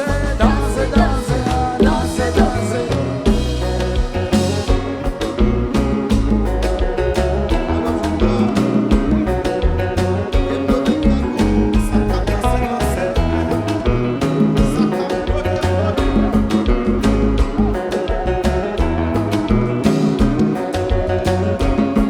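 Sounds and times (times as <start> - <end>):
drum and bass beat: 0.0 - 22.0
guitar: 0.0 - 22.0
live band playing: 0.0 - 22.0.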